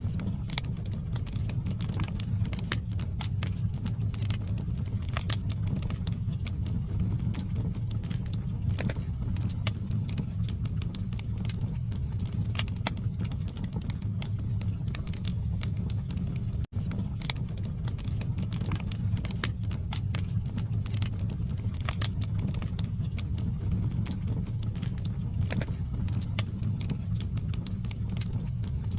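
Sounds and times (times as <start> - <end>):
low rumble of flame: 0.0 - 28.9
wood crackling and popping: 0.0 - 28.9.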